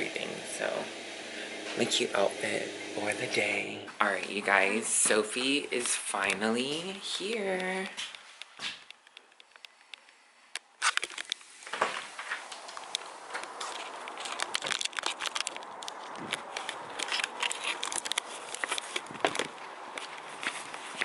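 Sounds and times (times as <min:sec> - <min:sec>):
footsteps on paved path: 0:01.5 - 0:10.0, 0:10.6 - 0:21.0.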